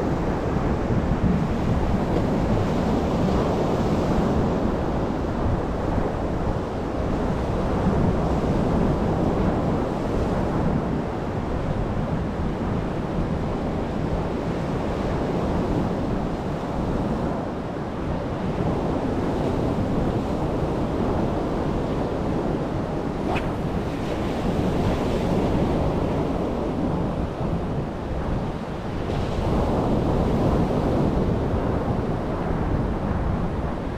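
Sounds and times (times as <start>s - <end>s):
wind buffeting the microphone: 0.0s - 33.9s.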